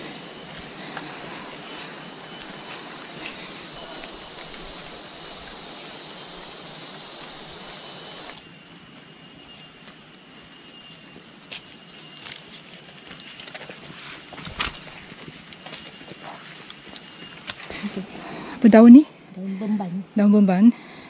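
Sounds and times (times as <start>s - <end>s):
insects droning: 0.0s - 21.0s
thin steady high whine: 0.0s - 21.0s.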